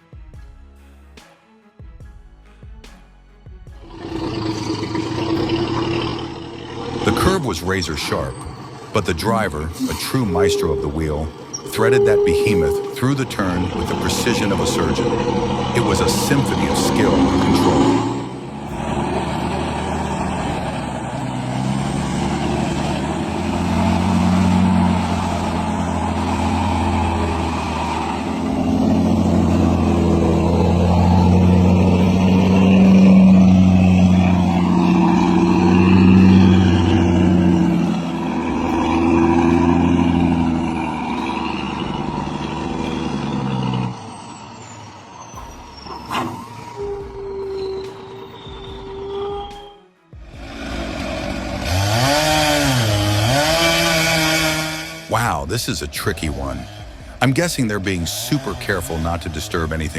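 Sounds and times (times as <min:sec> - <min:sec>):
heavy truck engine under load: 0:03.8 - 0:49.2, 0:50.1 - 0:59.9.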